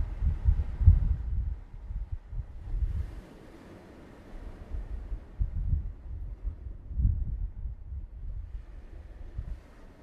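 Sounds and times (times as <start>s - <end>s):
wind buffeting microphone: 0.0s - 3.2s, 4.4s - 10.0s.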